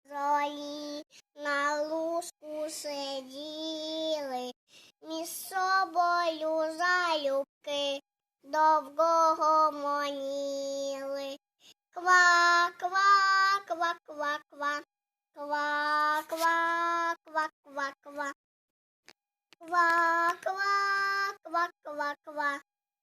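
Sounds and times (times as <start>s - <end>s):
girl singing unaccompanied: 0.0s - 18.4s, 19.6s - 22.7s.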